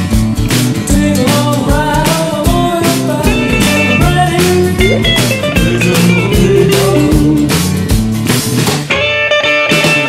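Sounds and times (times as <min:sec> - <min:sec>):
rock song with guitar and drums: 0:00.0 - 0:10.0.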